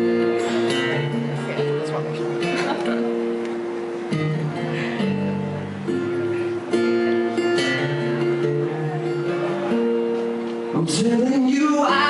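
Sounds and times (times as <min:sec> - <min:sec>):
acoustic guitar chords ringing: 0:00.0 - 0:12.0.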